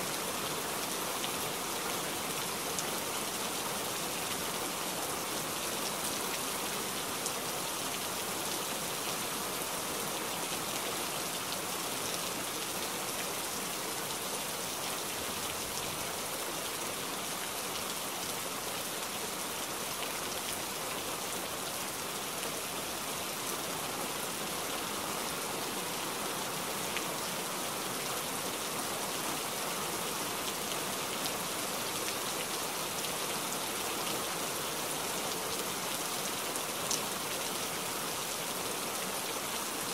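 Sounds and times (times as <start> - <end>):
fast-flowing floodwater: 0.0 - 39.9.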